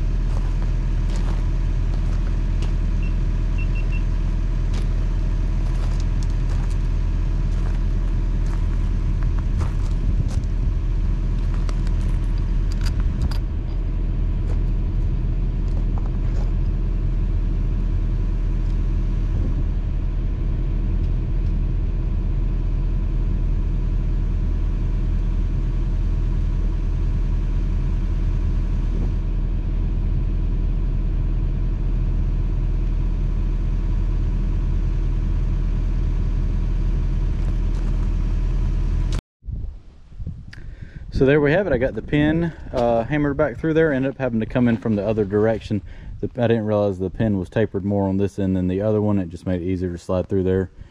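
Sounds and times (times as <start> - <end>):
excavator engine idling: 0.0 - 39.2, 40.6 - 50.9.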